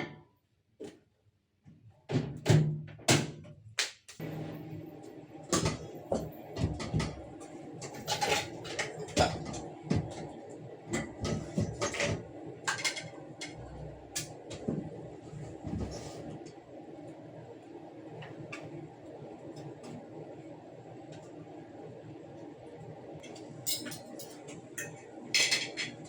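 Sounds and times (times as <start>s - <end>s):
low background hum: 4.2s - 26.0s.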